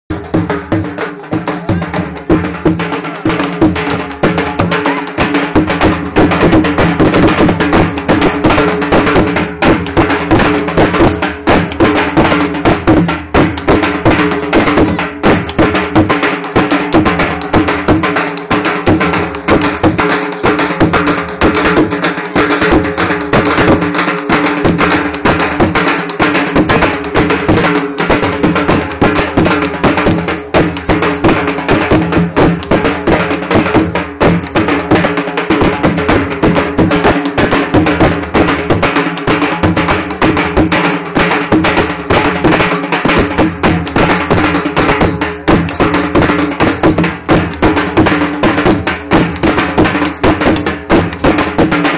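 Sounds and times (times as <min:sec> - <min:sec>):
rapid drumming: 0:00.1 - 0:51.9.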